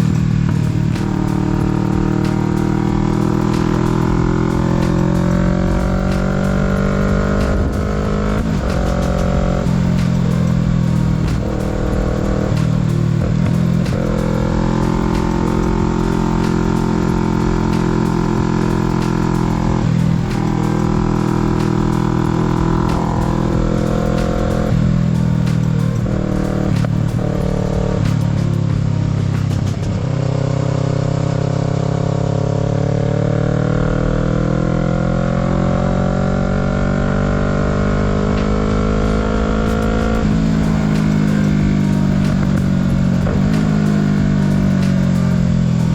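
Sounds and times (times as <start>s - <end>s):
motorcycle engine shifting gears: 0.0s - 45.9s.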